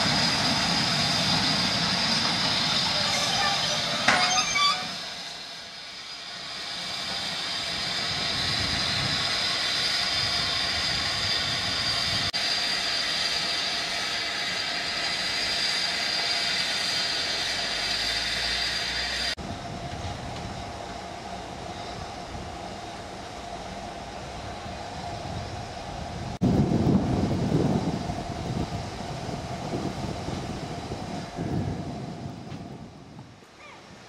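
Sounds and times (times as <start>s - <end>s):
steam locomotive hissing steam: 0.0s - 34.0s.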